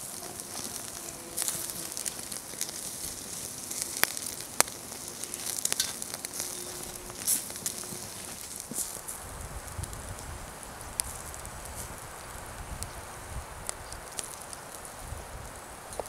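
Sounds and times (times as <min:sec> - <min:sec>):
fire popping and crackling: 0:00.0 - 0:16.0
meat sizzling on a grill: 0:00.0 - 0:16.0.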